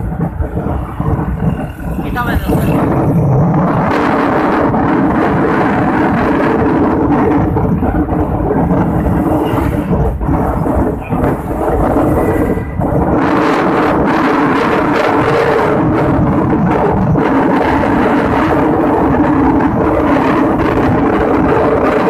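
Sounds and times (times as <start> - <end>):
vehicle engine and tyre noise: 0.0 - 22.0
wind buffeting microphone: 0.0 - 22.0.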